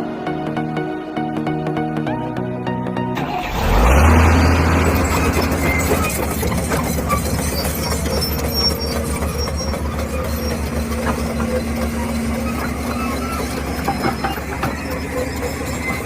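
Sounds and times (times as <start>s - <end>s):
diesel engine running: 3.0s - 16.0s.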